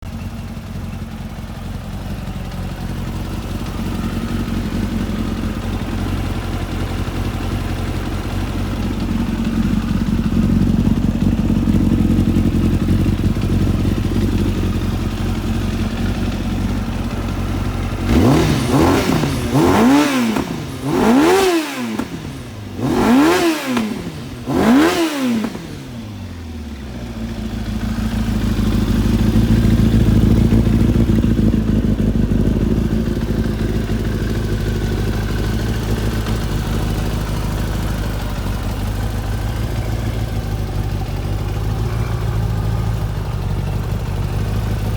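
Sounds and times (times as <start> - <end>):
motorcycle engine idling: 0.0 - 44.9
motorcycle engine revving: 0.1 - 44.9.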